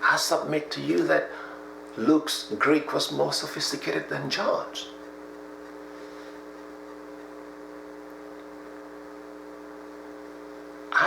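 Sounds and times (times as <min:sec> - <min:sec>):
hum of held tones: 0:00.0 - 0:11.0.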